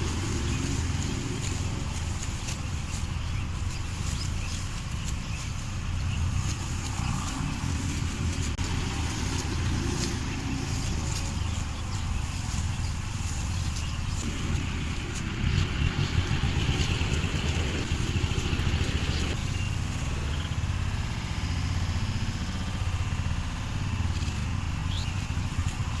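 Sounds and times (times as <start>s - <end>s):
harvesting machine engine running: 0.0s - 26.0s.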